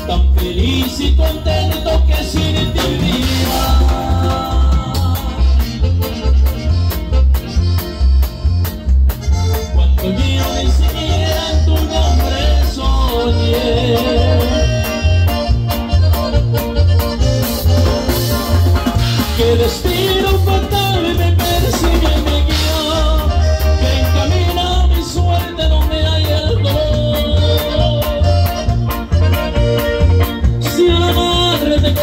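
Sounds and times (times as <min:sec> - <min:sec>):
accordion melody: 0:00.0 - 0:32.0.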